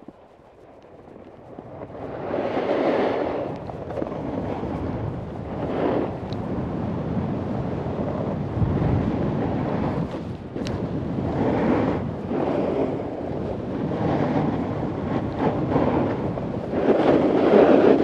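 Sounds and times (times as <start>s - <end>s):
snowboard scraping over snow: 0.0s - 18.0s
wind rumble on microphone: 0.0s - 18.0s.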